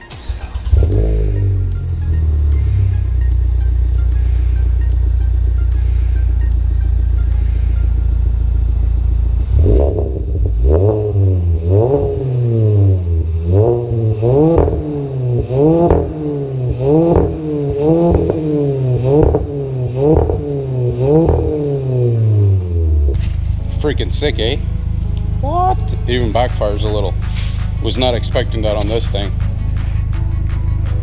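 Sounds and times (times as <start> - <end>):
car engine revving: 0.0 - 31.0
exhaust backfiring: 0.0 - 31.0.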